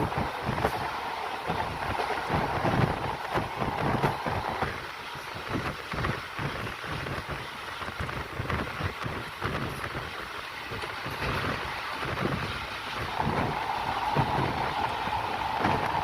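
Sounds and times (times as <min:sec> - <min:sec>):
passenger train rushing: 0:00.0 - 0:16.0
train rumble and rattle: 0:00.0 - 0:16.0.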